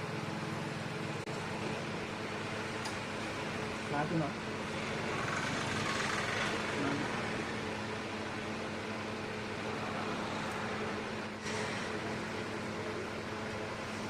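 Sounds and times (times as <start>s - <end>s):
steady electric hum: 0.0s - 14.0s.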